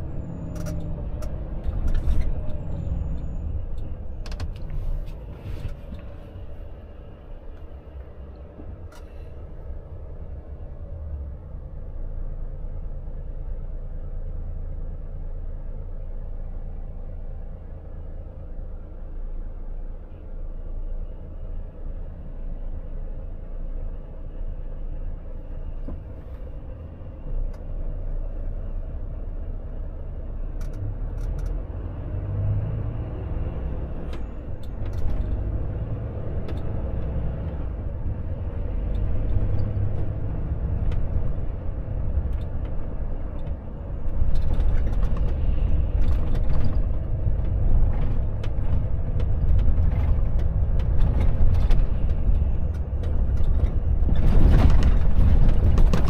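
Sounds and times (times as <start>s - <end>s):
road noise: 0.0s - 56.0s
truck diesel engine: 0.0s - 56.0s.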